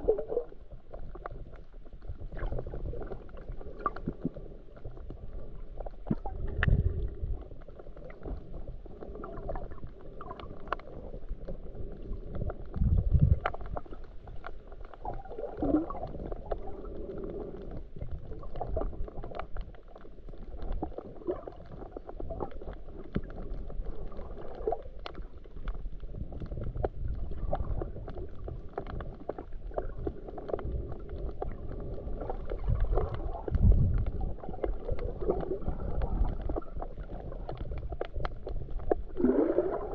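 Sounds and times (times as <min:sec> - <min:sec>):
underwater moving water rumble: 0:00.0 - 0:39.9.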